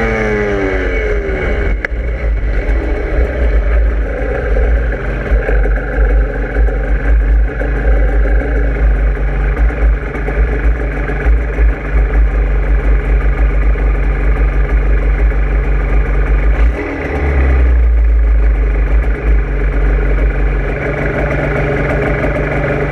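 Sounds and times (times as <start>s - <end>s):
vehicle engine rumbling: 0.0s - 22.9s.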